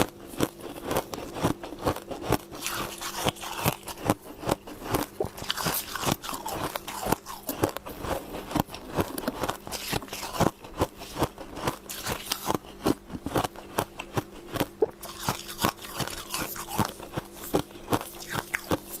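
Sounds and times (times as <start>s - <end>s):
crunching and chewing ice: 0.0s - 19.0s.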